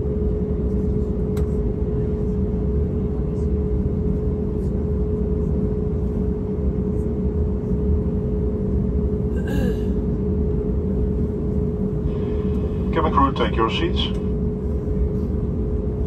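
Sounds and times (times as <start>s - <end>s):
airliner cabin rumble and hum: 0.0s - 16.0s.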